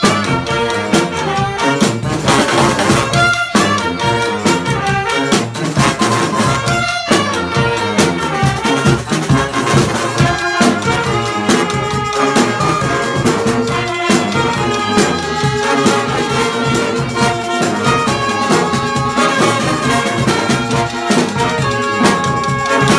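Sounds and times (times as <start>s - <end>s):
brass street band playing: 0.0s - 22.9s
marching drums: 0.0s - 22.9s.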